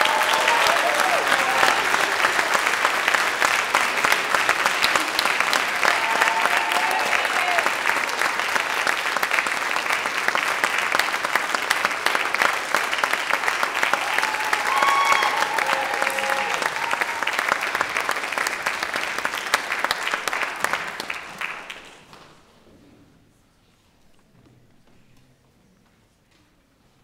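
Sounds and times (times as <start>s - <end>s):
audience applauding: 0.0s - 22.1s.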